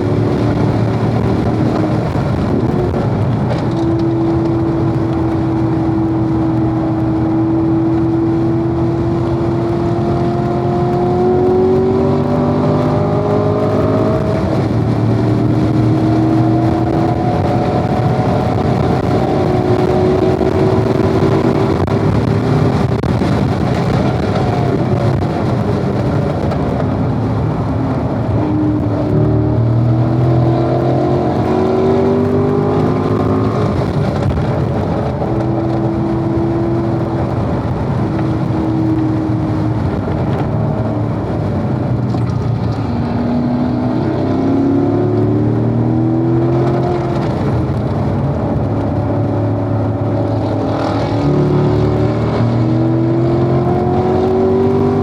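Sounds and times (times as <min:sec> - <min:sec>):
car engine revving through gears: 0:00.0 - 0:55.0
wind noise: 0:00.0 - 0:55.0.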